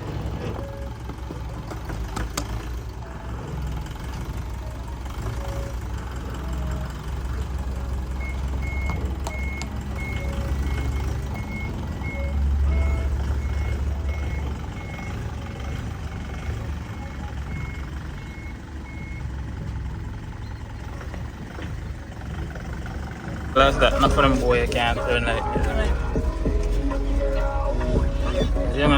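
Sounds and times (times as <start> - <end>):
truck engine drone: 0.0 - 28.9.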